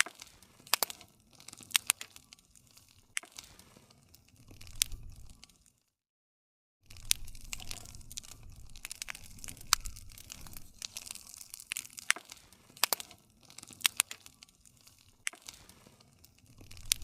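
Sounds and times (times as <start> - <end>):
burning wood popping: 0.0 - 5.9, 6.8 - 17.0
flames hissing: 0.1 - 5.6, 6.9 - 17.0.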